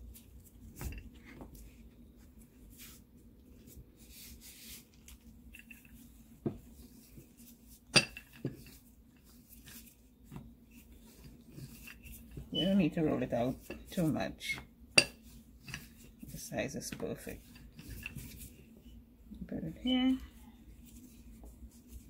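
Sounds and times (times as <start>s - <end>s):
rolling pin rubbing dough: 0.0s - 19.0s, 20.7s - 22.0s.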